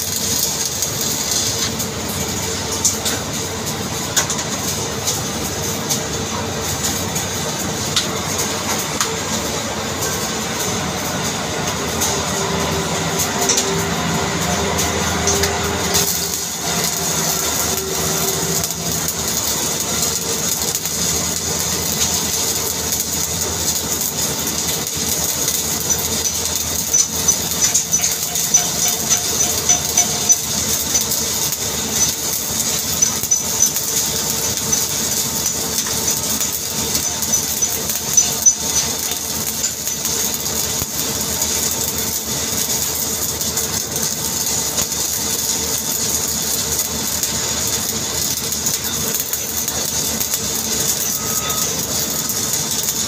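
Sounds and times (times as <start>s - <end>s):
welding arc crackling and sizzling: 0.0s - 53.0s.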